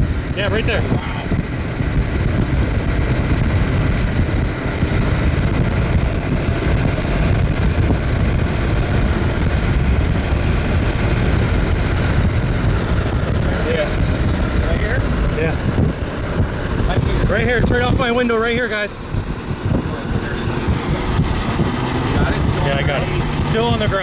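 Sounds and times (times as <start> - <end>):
car driving rumble: 0.0 - 24.0
road and wind noise: 0.0 - 24.0.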